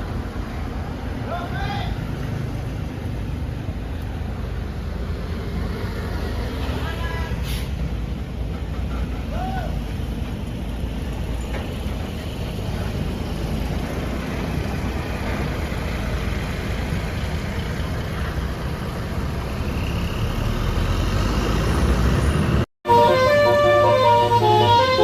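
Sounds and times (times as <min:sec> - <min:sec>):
large vehicle engine rumbling: 0:00.0 - 0:25.0
roadside traffic: 0:00.0 - 0:25.0.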